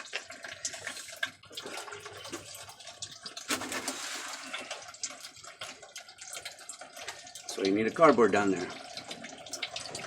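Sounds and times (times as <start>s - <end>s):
fluid gushing from hose: 0.0s - 10.0s.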